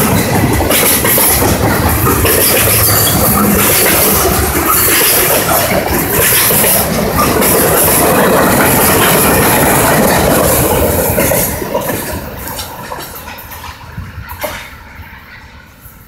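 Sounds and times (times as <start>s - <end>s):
freight train cars rolling on rails: 0.0s - 16.0s.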